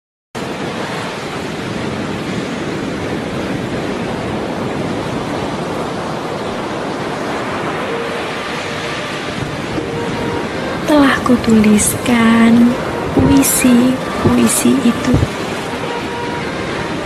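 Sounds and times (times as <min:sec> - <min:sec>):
rushing water: 0:00.4 - 0:17.0.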